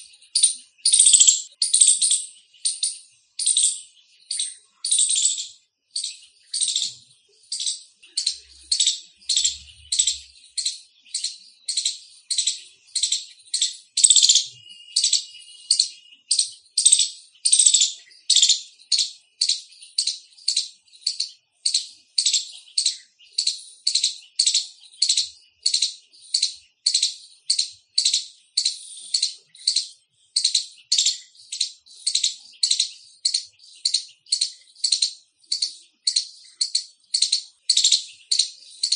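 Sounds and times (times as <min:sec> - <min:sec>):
squirrel chirping: 0:00.0 - 0:38.9.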